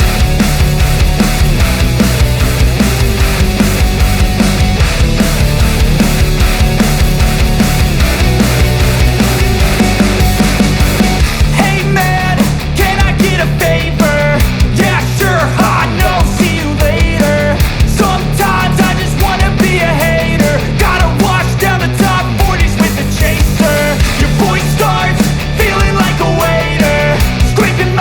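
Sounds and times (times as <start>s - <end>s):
loud music with drum beat: 0.0s - 28.0s.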